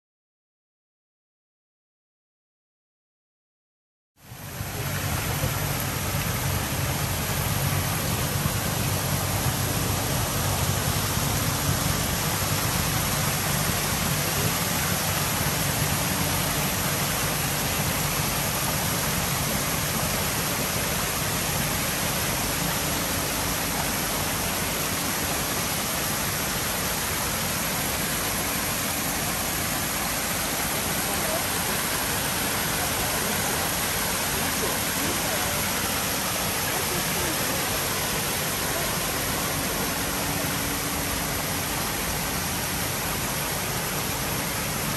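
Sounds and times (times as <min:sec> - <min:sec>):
fountain water rushing over stone: 0:04.2 - 0:44.9.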